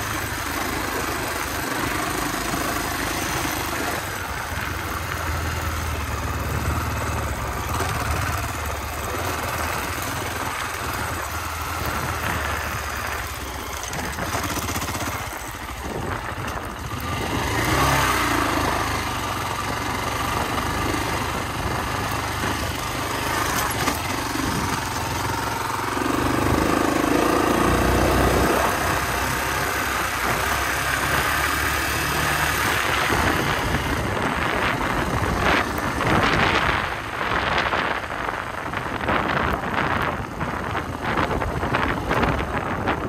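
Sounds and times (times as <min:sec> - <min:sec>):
motorcycle engine running: 0:00.0 - 0:43.0
wind buffeting microphone: 0:05.3 - 0:18.1, 0:19.5 - 0:43.0.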